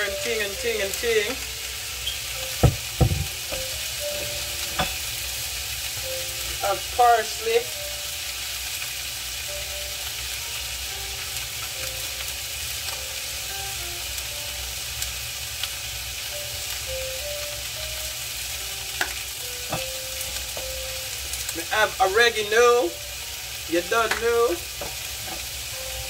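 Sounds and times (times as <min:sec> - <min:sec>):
vegetables sizzling in frying pan: 0:00.0 - 0:26.0.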